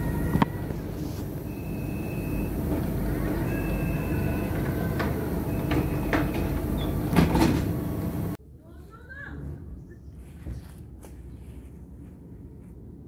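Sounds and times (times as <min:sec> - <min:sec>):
tram rumbling: 0:00.0 - 0:13.0.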